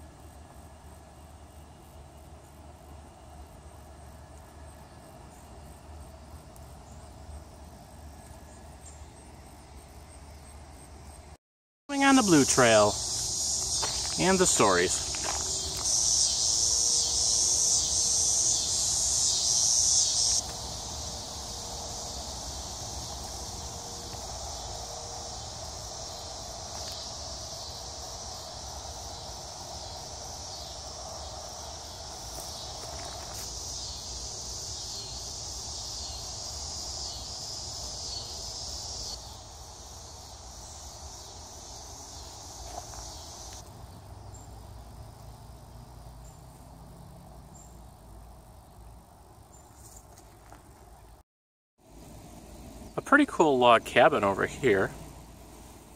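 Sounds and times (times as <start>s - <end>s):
insects buzzing: 0.0s - 51.2s, 51.8s - 55.9s.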